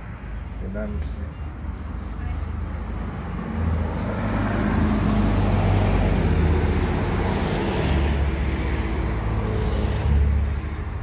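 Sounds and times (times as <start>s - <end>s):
road traffic rumble: 0.0s - 11.0s
vehicle passing: 1.6s - 11.0s.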